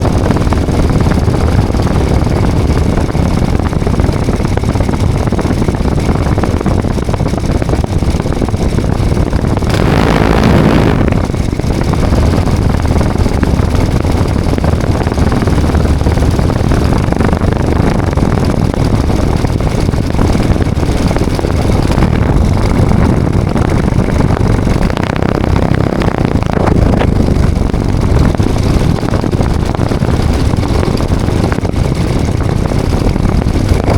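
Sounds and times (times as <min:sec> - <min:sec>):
model airplane motor and wind rush: 0:00.0 - 0:33.9.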